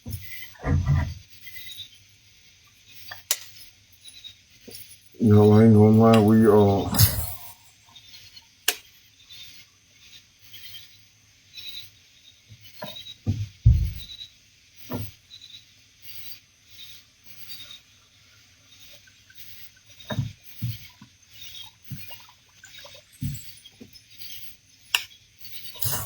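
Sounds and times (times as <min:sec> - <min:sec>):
night insect chorus: 0:00.2 - 0:26.0.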